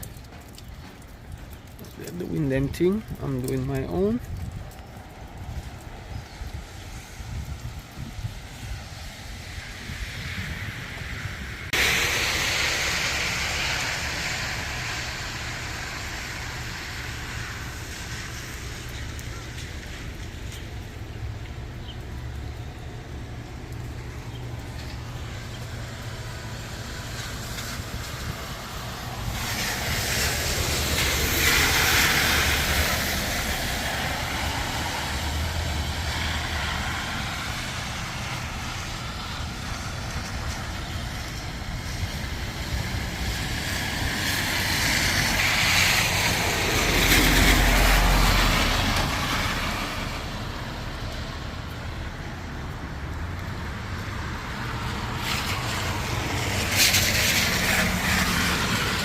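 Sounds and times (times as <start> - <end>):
background traffic: 0.0 - 59.0
vehicles passing: 0.0 - 59.0.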